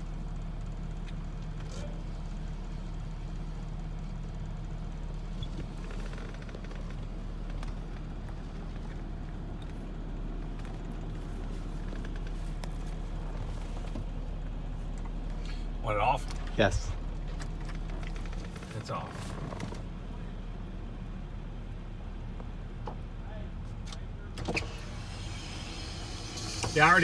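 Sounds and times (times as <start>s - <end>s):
engine idling hum: 0.0s - 27.0s.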